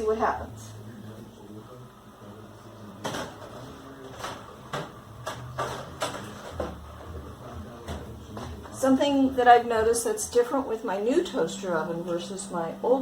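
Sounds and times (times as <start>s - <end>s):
oven fan humming: 0.0s - 13.0s.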